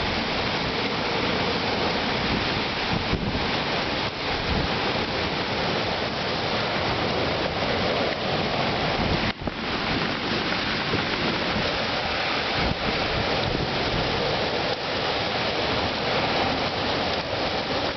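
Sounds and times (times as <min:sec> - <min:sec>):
strong wind buffeting microphone: 0:00.0 - 0:17.9.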